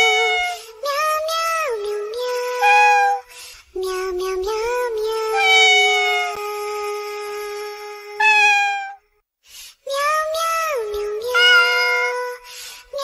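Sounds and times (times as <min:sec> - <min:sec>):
synthetic meow-like singing: 0:00.0 - 0:09.0, 0:09.9 - 0:12.4.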